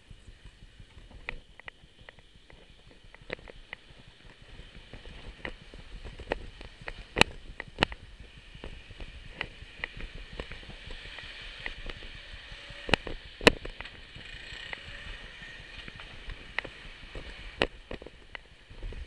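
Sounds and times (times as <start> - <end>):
bicycle rattling on concrete: 0.8 - 19.0.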